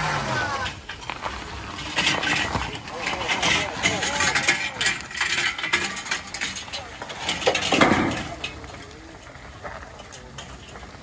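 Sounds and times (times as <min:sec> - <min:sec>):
men talking and calling out: 0:00.0 - 0:11.0.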